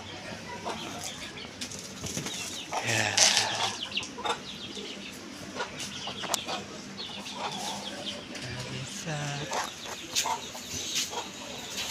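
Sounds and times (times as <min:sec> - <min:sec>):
chickens clucking: 0:00.0 - 0:11.9.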